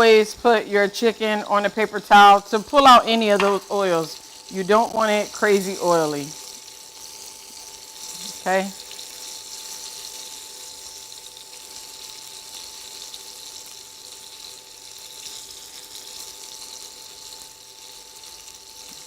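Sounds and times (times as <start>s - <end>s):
chicken frying in oil: 0.0s - 19.0s.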